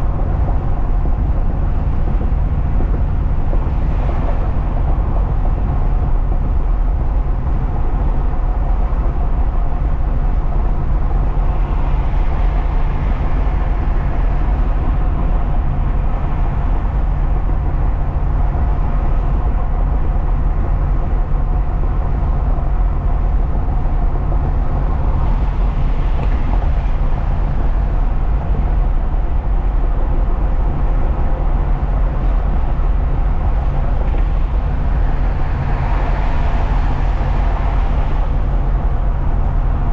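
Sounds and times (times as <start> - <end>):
constant low hum: 0.0 - 39.9
road rumble: 0.0 - 39.9
truck engine drone: 0.0 - 39.9.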